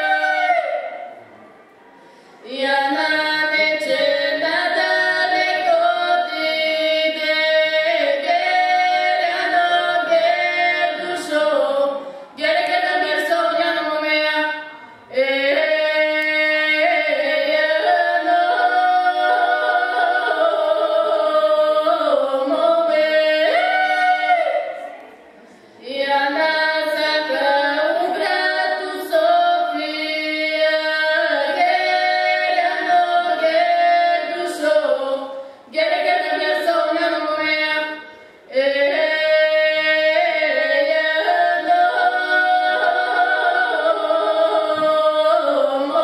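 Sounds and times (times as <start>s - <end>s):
two women singing unaccompanied: 0.0s - 1.4s, 2.3s - 46.0s.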